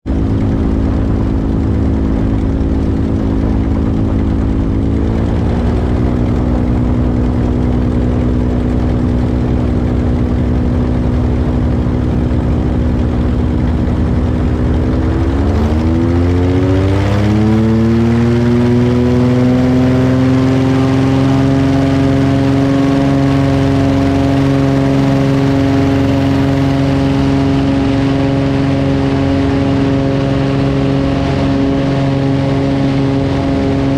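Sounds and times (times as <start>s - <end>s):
aircraft engines and propellers droning: 0.0s - 33.9s.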